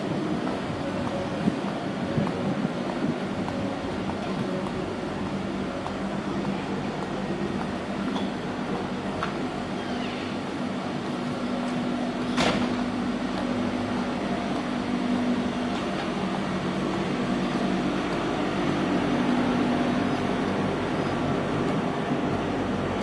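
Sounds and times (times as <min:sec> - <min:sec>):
mechanical hum: 0:00.0 - 0:23.0.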